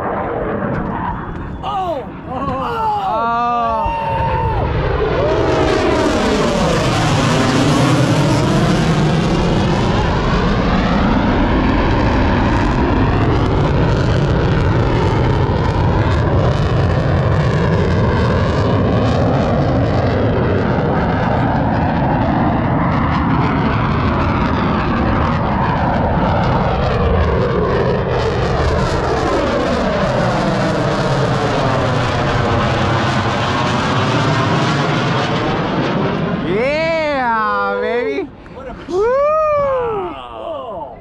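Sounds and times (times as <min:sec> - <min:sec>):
jet roaring past: 0:00.0 - 0:40.1.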